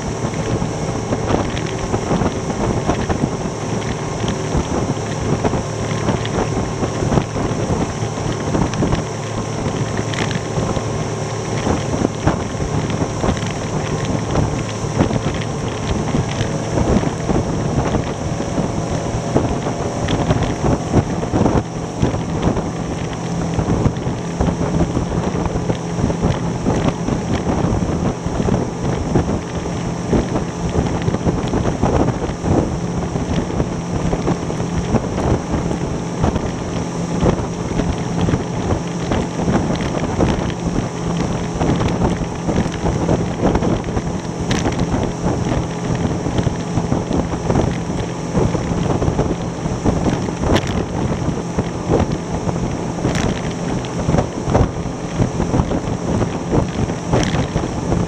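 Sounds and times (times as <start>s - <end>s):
outboard motor running: 0.0s - 58.0s
wind buffeting microphone: 0.0s - 58.0s.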